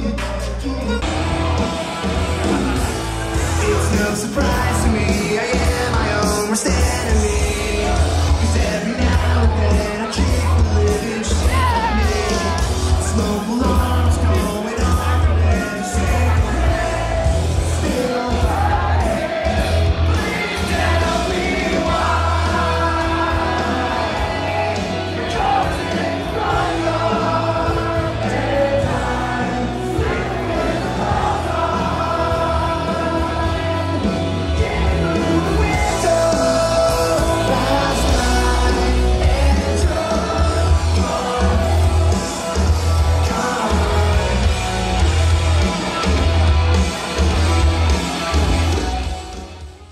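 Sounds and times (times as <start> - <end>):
singing over heavy bass beat: 0.0 - 49.9.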